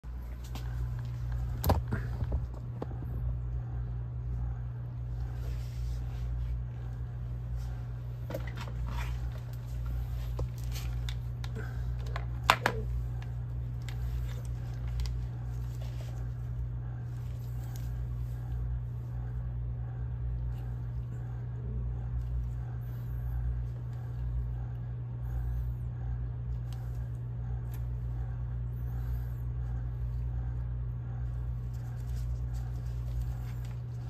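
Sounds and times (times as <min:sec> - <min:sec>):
lab equipment humming: 0:00.0 - 0:34.0.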